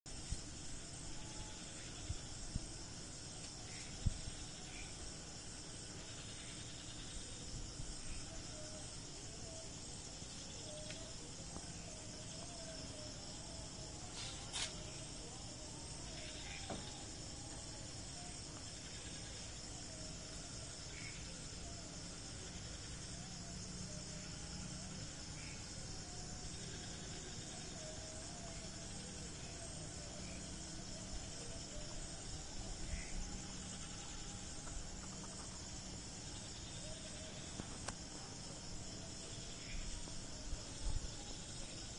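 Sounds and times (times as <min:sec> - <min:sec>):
high-pitched background hiss: 0:00.1 - 0:41.9.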